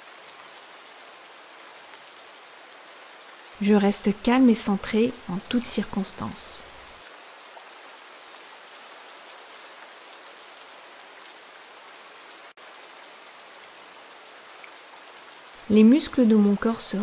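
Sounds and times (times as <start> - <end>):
rain falling on forest: 0.0 - 17.0.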